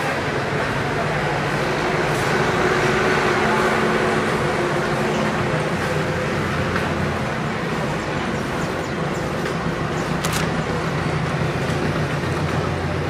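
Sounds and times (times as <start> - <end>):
machinery and engines droning: 0.0 - 13.0.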